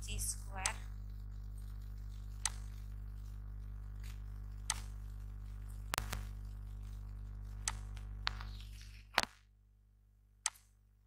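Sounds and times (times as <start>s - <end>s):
low electrical hum: 0.0s - 11.0s
computer mouse clicking: 0.1s - 9.3s.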